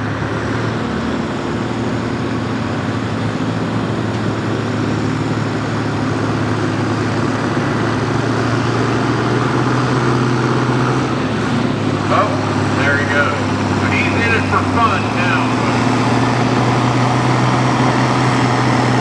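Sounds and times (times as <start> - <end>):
tractor diesel engine droning: 0.0 - 19.0.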